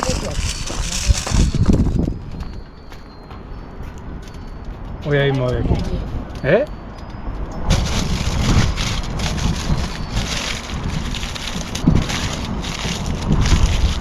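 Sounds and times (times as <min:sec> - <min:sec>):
bonfire crackling: 0:00.0 - 0:14.0
low fire rumble: 0:00.0 - 0:14.0.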